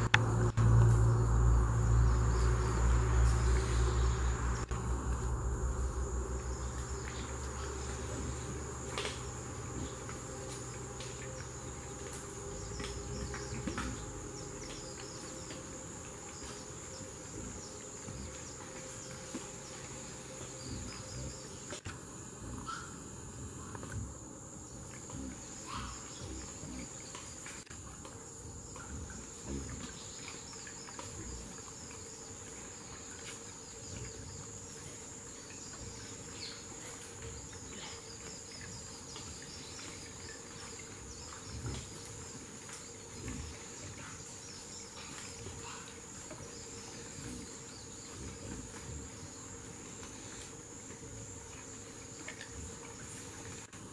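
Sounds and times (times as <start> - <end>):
high insect buzz: 0.0 - 53.9.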